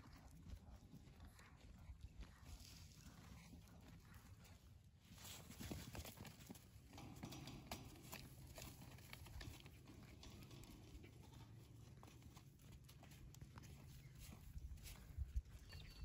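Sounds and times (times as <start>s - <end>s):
goat hooves shuffling in sand: 0.0s - 16.0s.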